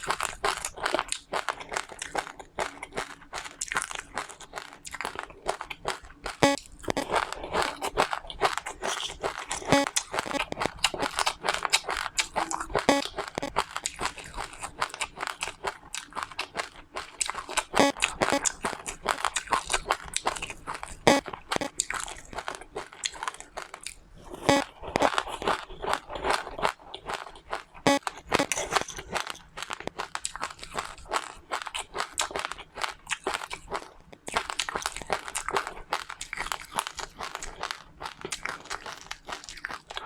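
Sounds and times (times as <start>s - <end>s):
person chewing crunchy food: 0.0s - 40.0s.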